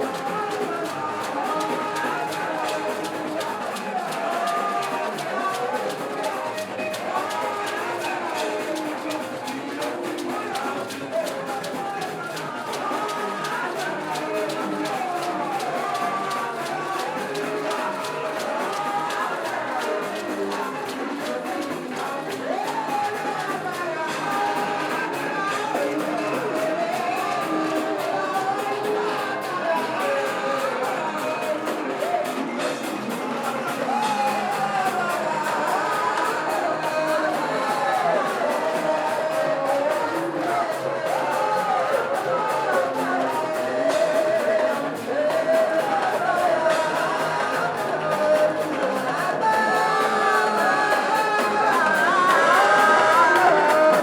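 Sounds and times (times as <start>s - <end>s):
instruments playing over a beat: 0.0s - 54.0s
voices singing: 0.0s - 54.0s.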